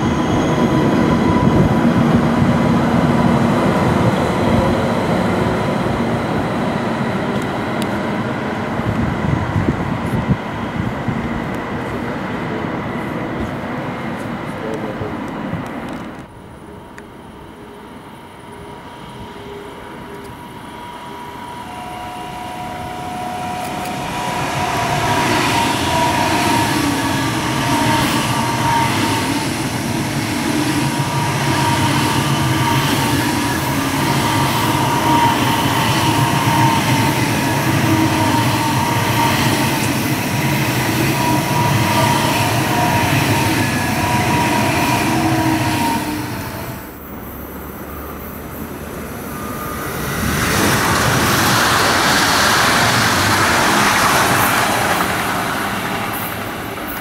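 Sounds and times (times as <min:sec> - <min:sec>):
high-speed train passing: 0:00.0 - 0:57.0.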